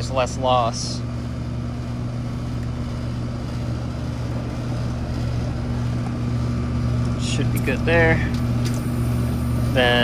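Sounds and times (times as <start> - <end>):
air conditioner unit humming: 0.0 - 10.0
low electrical drone: 0.0 - 10.0.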